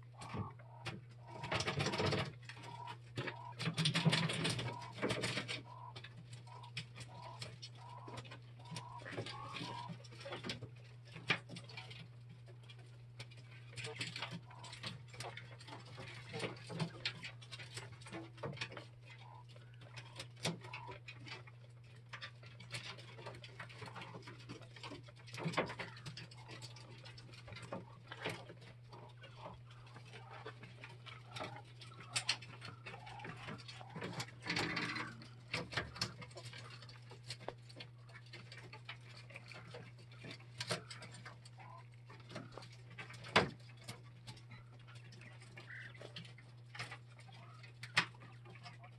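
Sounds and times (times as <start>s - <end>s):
quail tapping and scratching in cage: 0.0s - 48.9s
steady low hum: 0.0s - 48.9s.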